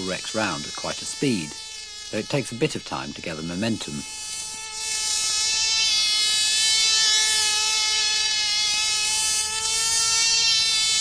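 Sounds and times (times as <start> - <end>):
model aeroplane engine buzzing: 0.0 - 11.0.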